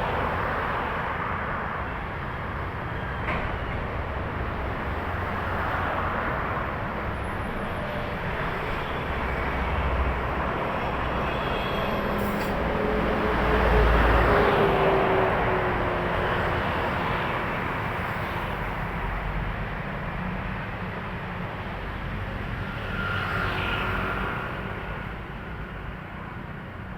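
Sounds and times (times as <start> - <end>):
highway traffic passing: 0.0 - 26.9.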